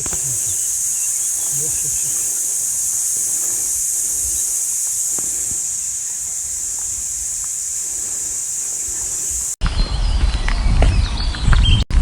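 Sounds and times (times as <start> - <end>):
insects chorus: 0.0 - 9.6.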